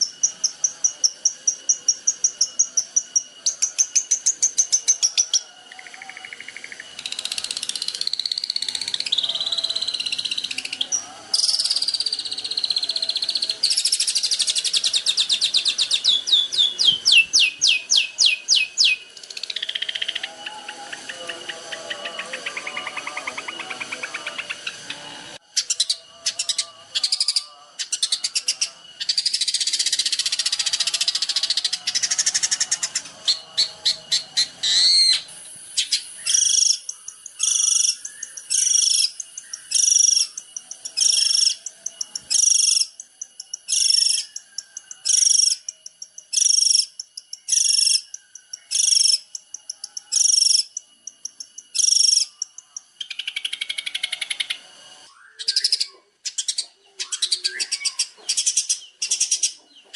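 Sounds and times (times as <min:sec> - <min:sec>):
songbird trills and chatter: 0:00.0 - 0:59.9.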